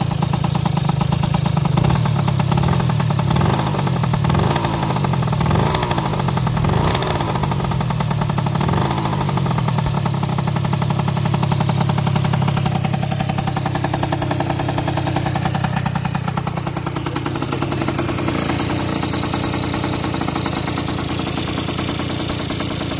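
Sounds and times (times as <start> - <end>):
two-stroke scooter engine idling: 0.0 - 22.9.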